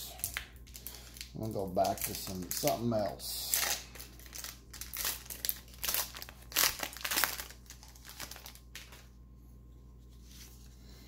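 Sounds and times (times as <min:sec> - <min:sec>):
card pack wrapper crinkling and tearing: 0:00.1 - 0:09.1.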